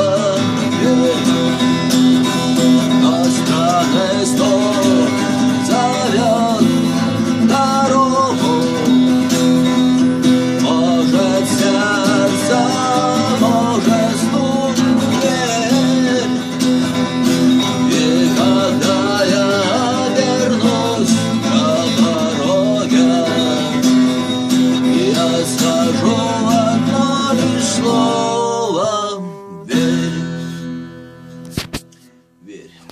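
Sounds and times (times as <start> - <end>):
strummed guitar chord: 0.0 - 31.7
acoustic guitar playing: 0.0 - 32.9.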